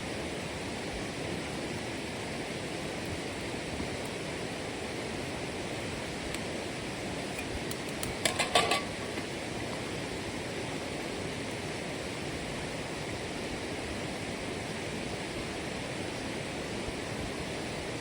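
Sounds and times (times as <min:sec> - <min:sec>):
running water rushing: 0:00.1 - 0:18.0.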